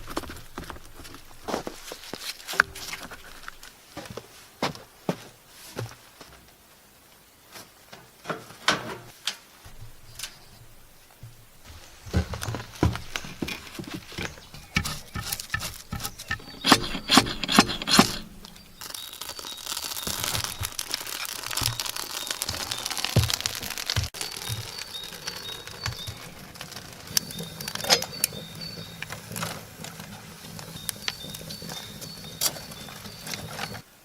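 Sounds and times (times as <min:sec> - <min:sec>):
steady rustling hiss: 0:00.0 - 0:34.0.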